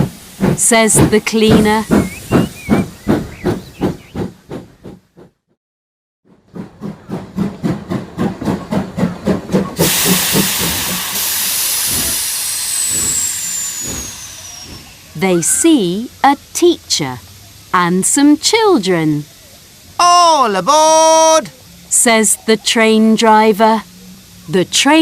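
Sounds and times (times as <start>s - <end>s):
steam hissing: 0.0s - 4.7s, 6.6s - 25.0s
steam train chuffing: 0.0s - 5.3s, 6.3s - 25.0s.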